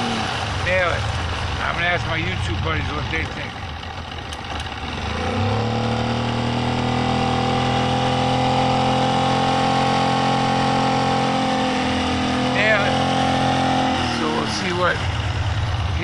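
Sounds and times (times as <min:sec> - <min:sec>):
boat motor at full throttle: 0:00.0 - 0:16.0.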